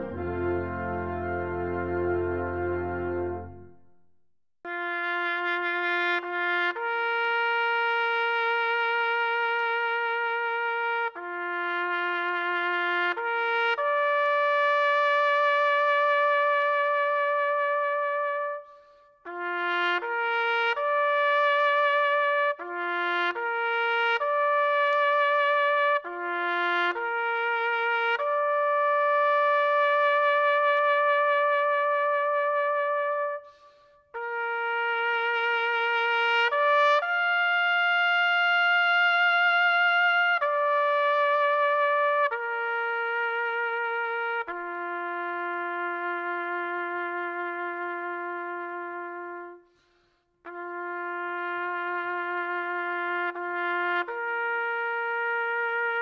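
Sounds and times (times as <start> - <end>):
solo trumpet melody: 0.0 - 4.0, 4.7 - 56.0.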